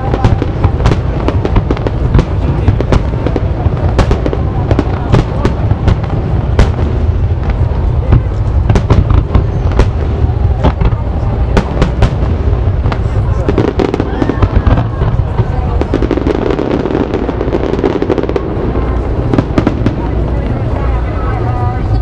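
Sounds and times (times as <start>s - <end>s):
firework cracks: 0.0s - 20.9s
deep rumble of booms: 0.0s - 22.0s.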